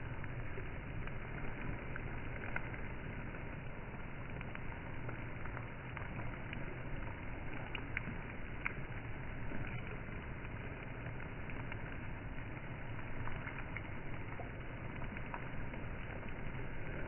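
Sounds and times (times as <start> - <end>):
rain and strong wind: 0.0 - 17.0
raindrops ticking: 0.0 - 17.0.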